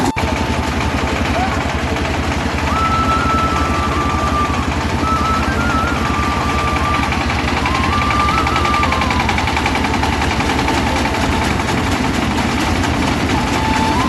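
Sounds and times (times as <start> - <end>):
diesel tractor engine chugging: 0.0 - 14.0.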